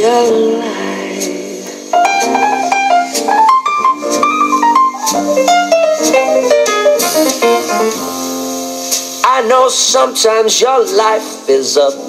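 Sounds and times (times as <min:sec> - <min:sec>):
pop song keyboard melody: 0:00.0 - 0:12.0.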